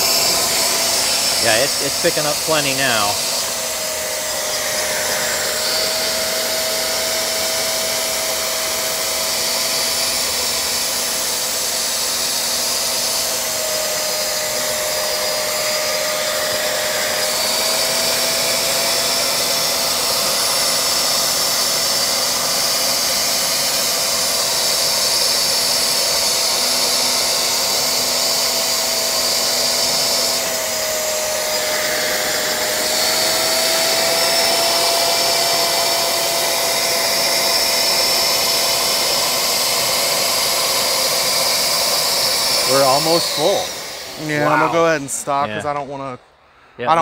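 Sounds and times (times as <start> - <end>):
wet vacuum motor whining: 0.0 - 45.9.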